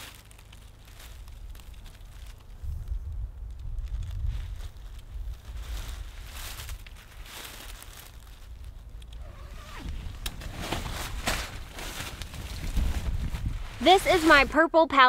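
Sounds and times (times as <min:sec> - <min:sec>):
tent fabric rustling: 0:00.0 - 0:02.9, 0:03.8 - 0:15.0
wind rumble on microphone: 0:01.0 - 0:14.7.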